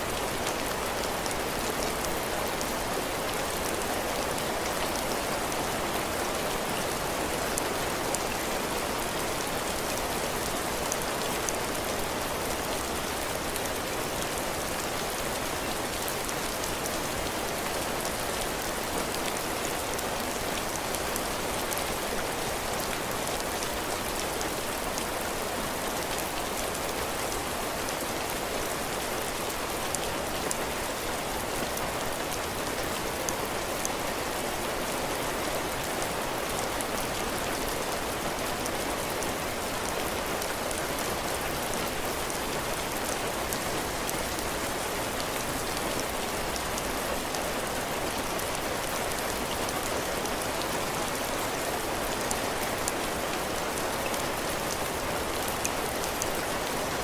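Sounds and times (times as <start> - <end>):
heavy rain on porch and roof: 0.0 - 57.0.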